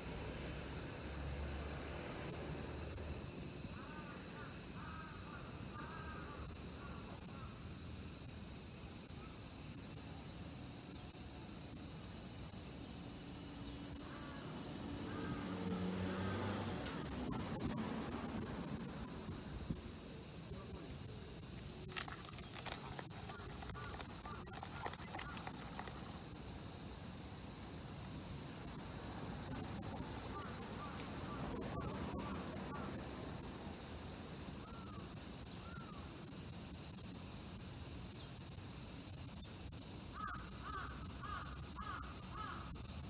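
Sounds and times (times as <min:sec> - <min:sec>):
insect chorus shrilling: 0:00.0 - 0:10.8, 0:11.6 - 0:43.0.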